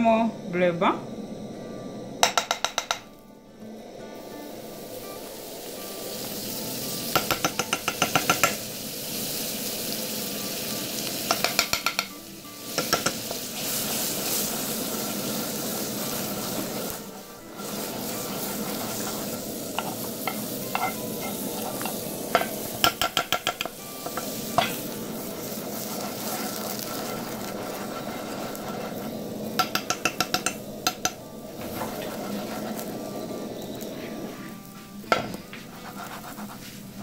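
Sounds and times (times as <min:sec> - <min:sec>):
bread sizzling in a frying pan: 0:03.8 - 0:37.0.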